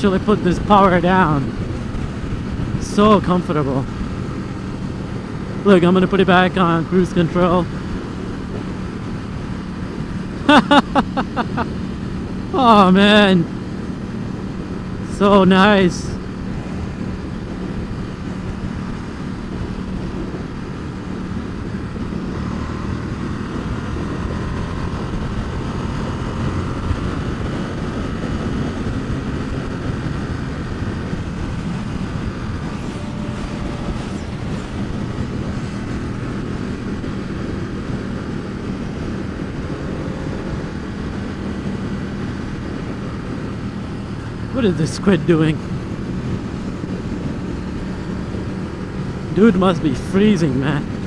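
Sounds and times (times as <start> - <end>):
motorcycle engine droning: 0.0 - 51.0
wet road noise: 0.0 - 51.0
wind noise: 0.0 - 51.0.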